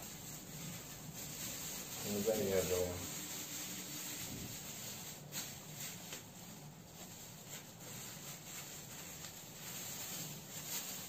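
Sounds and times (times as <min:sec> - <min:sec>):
plastic bag crinkling: 0:00.0 - 0:11.0
steady low hiss: 0:00.0 - 0:11.0.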